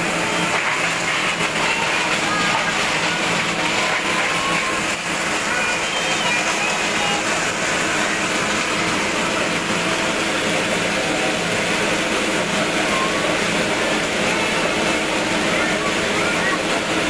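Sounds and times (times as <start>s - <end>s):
plastic shredder running: 0.0s - 17.0s.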